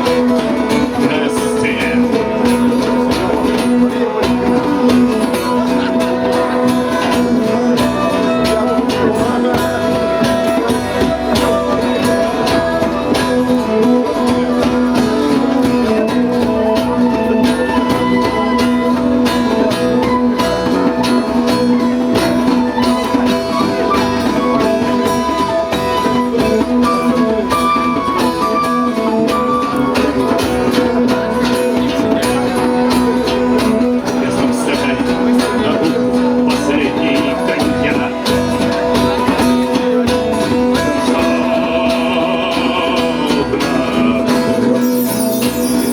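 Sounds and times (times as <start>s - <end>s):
guitar playing: 0.0s - 45.9s
percussion beat: 0.0s - 45.9s.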